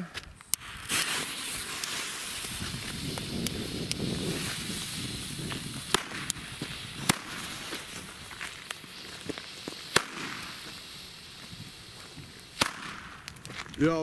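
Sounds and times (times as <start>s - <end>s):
firecracker bangs: 0.6s - 13.5s.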